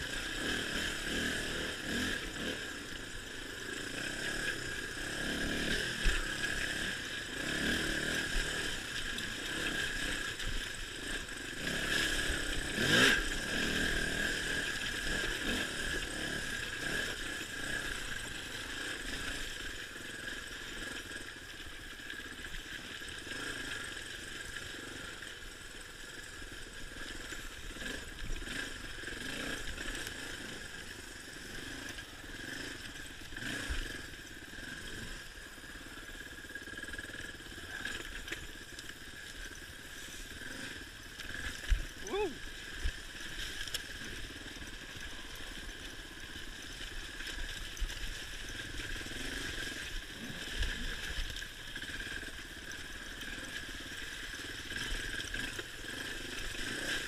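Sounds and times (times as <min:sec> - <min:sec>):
dirt bike engine revving: 0:00.0 - 0:21.2, 0:23.1 - 0:51.2, 0:51.8 - 0:57.0
bike splashing through mud puddle: 0:00.2 - 0:02.6, 0:03.8 - 0:19.3, 0:27.7 - 0:57.0.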